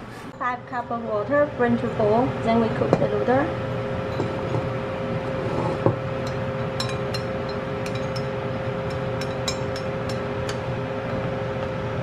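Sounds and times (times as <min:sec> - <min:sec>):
steady droning hum: 0:00.0 - 0:12.0.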